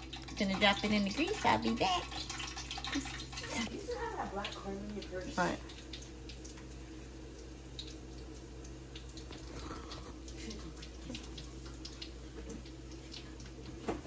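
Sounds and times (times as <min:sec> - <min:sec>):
hot oil sizzling in a pan: 0:00.0 - 0:14.0
oil popping and crackling: 0:00.0 - 0:14.0.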